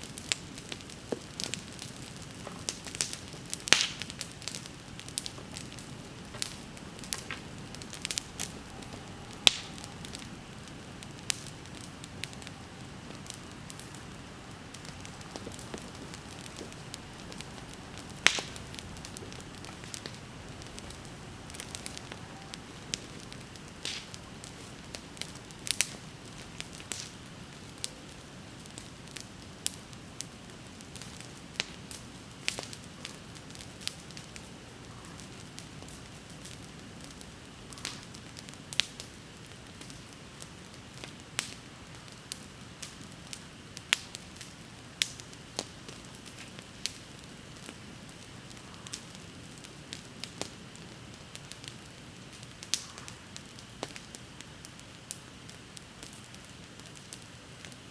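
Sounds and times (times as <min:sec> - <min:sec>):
bonfire crackling and popping: 0:00.0 - 0:57.9.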